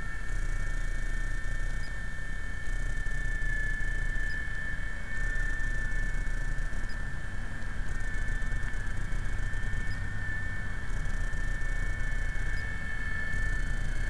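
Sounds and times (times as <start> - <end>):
rc helicopter motor whine: 0.0 - 14.0.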